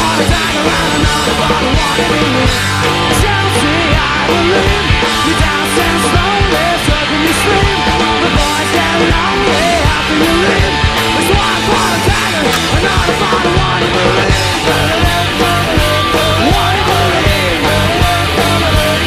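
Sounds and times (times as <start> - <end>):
rock music: 0.0 - 19.0.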